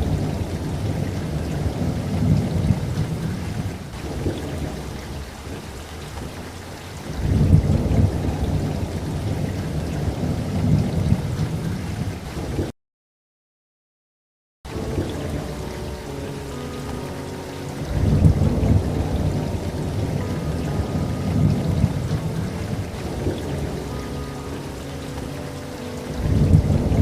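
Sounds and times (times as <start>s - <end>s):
steady rain: 0.0s - 12.7s, 14.7s - 27.0s
thunder rumbling: 0.0s - 12.7s, 14.7s - 27.0s.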